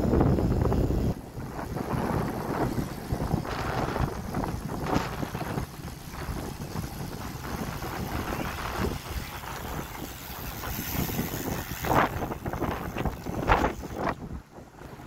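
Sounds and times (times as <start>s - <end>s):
road and tyre noise: 0.0s - 15.0s
wind rushing over microphone: 0.0s - 15.0s.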